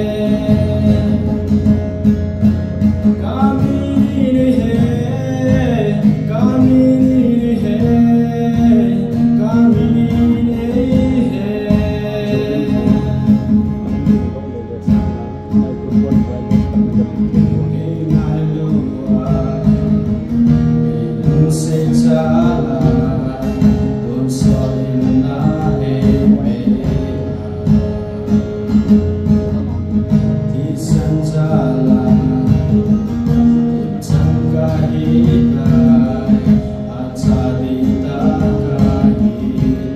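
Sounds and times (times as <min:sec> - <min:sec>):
person singing: 0:00.0 - 0:02.0, 0:03.0 - 0:39.9
strummed acoustic guitar: 0:00.0 - 0:39.9.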